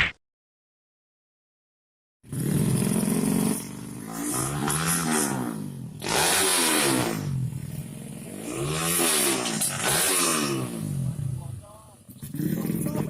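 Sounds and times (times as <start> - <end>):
motorcycle engines revving hard: 2.2 - 13.0.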